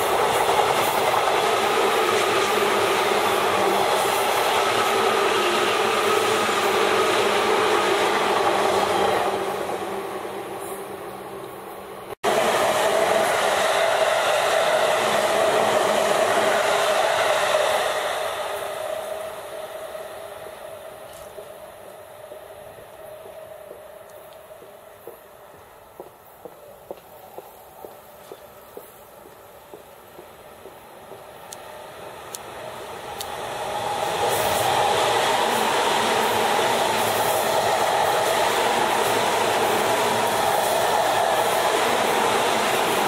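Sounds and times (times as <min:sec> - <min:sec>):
electric train passing: 0:00.0 - 0:43.0
rail noise: 0:00.0 - 0:43.0.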